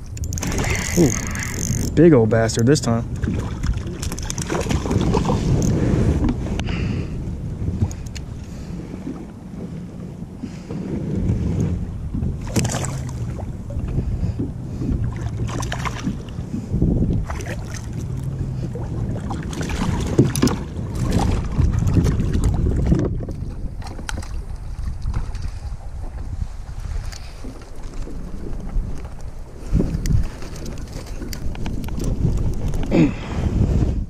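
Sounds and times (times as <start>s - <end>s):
wind buffeting microphone: 0.0s - 34.0s
water slapping against kayak hull: 0.4s - 2.0s, 3.1s - 6.7s, 7.6s - 32.9s.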